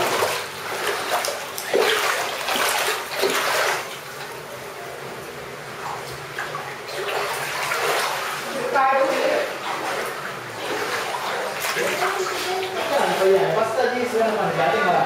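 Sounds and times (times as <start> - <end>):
floodwater sloshing on tiled floor: 0.0 - 4.5, 5.8 - 14.5.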